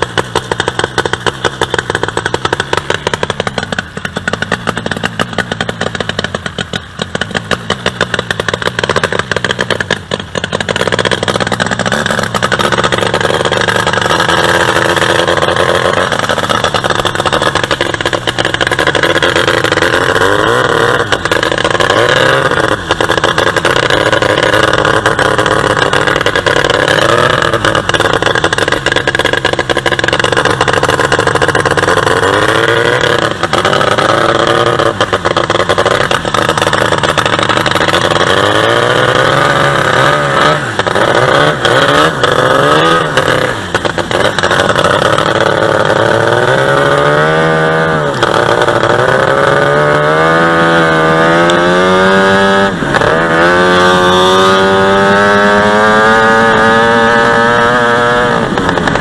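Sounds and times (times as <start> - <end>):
boat engine running hard: 0.0 - 59.0.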